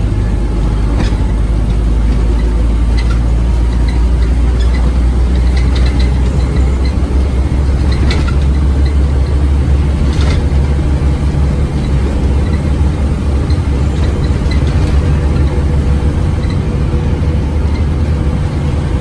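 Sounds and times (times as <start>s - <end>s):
bodywork rattles and clicks: 0.0s - 19.0s
bus diesel engine droning: 0.0s - 19.0s.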